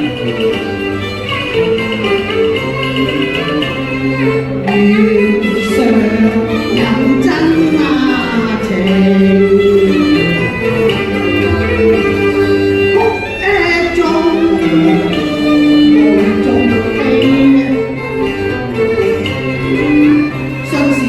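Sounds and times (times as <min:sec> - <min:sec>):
bowed and plucked string instruments: 0:00.0 - 0:21.0
person singing gliding melody: 0:00.0 - 0:21.0.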